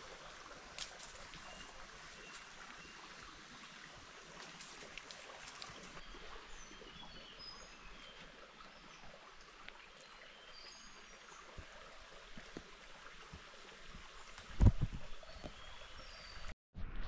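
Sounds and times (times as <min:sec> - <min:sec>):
faint forest ambience: 0:00.0 - 0:14.5.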